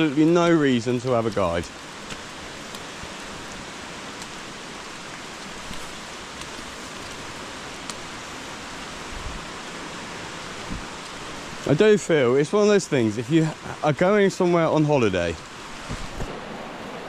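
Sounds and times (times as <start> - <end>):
running water hissing: 0.0 - 16.6.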